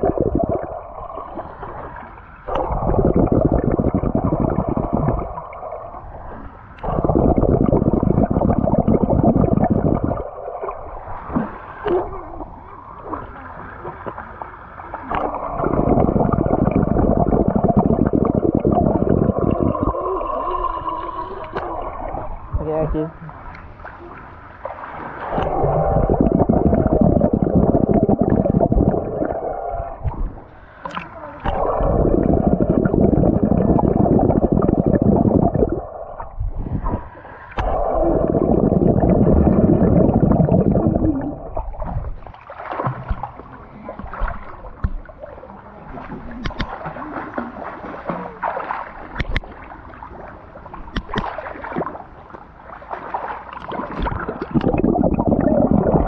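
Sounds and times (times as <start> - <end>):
muffled underwater water rumble: 0.0 - 56.0
water splashing and lapping: 0.0 - 56.0.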